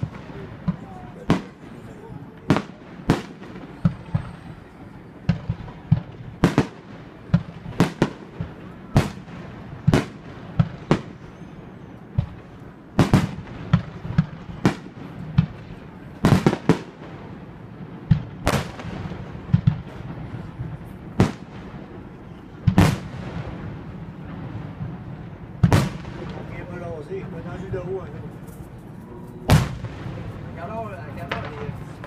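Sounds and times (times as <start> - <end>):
firework shells booming: 0.0 - 28.4, 29.4 - 32.0.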